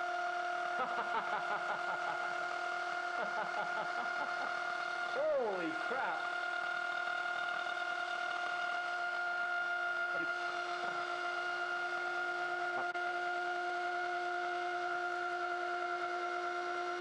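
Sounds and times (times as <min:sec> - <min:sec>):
router whining: 0:00.0 - 0:17.0.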